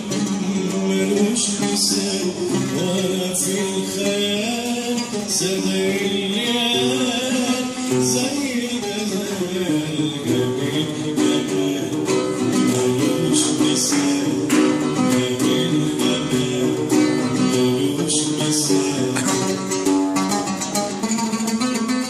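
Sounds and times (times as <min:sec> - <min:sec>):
oud plucked melody: 0:00.0 - 0:22.0.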